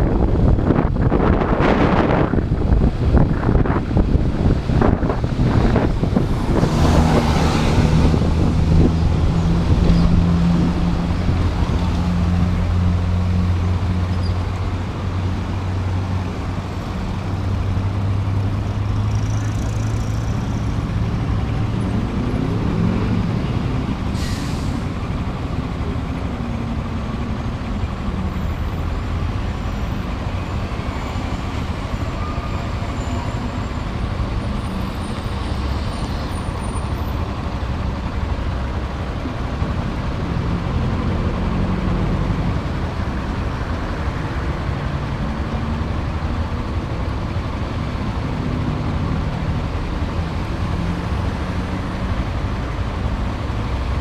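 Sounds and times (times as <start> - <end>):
street traffic: 0.0 - 54.0.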